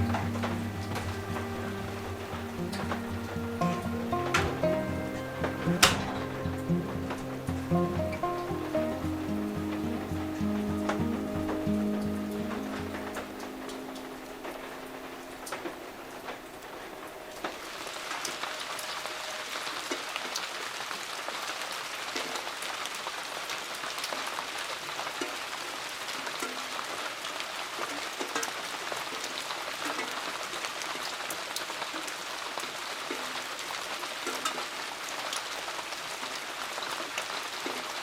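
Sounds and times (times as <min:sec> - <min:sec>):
rain drops tapping: 0:00.0 - 0:38.0.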